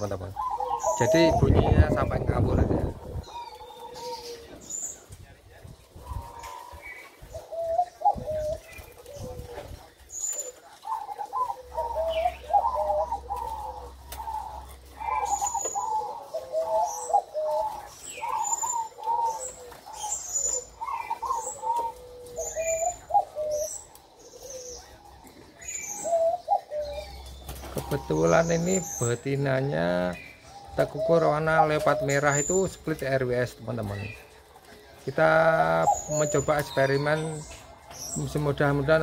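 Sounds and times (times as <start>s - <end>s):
dove cooing: 0.0s - 39.0s
small birds chirping: 0.0s - 39.0s.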